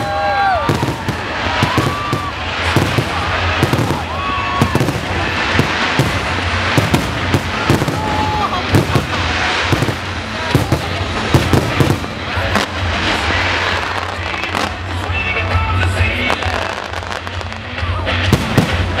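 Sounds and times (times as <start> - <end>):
firework whistles: 0.0 - 19.0
fireworks bangs and crackling: 0.0 - 19.0.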